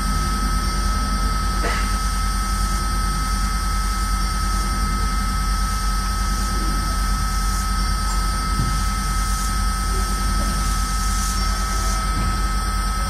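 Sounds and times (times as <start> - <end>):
constant high-pitched tone: 0.0 - 13.0
steady rumbling drone: 0.0 - 13.0.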